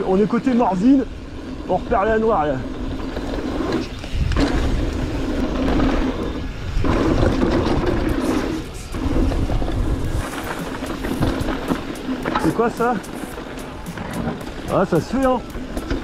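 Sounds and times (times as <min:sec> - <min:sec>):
bike rattling over dirt trail: 0:00.0 - 0:16.0
wind rushing over microphone: 0:00.0 - 0:16.0.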